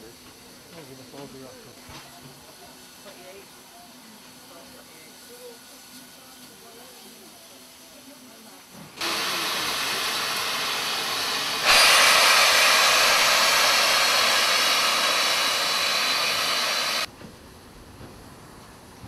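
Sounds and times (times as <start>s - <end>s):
steam locomotive hissing: 0.0s - 17.1s.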